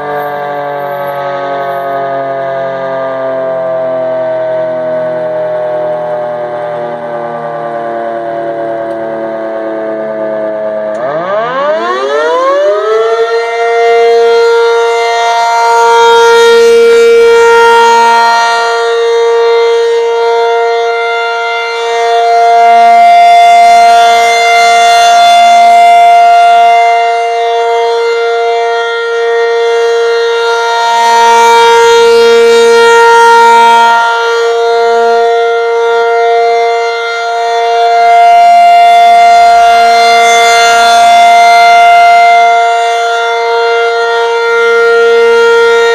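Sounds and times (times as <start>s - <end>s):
outdoor warning siren: 0.0s - 45.9s.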